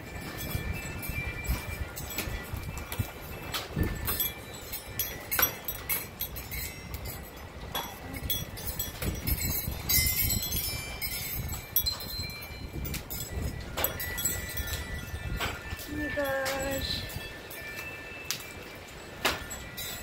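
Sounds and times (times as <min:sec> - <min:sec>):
high-pitched chiming: 0:00.0 - 0:20.0.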